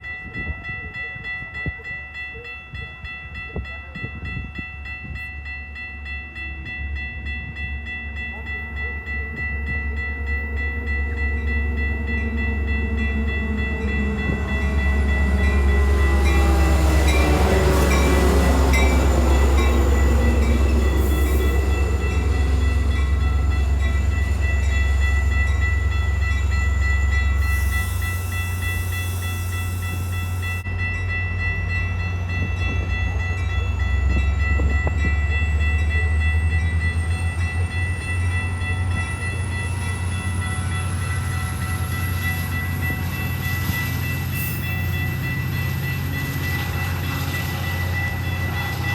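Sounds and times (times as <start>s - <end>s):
diesel train rumble: 0.0s - 48.9s.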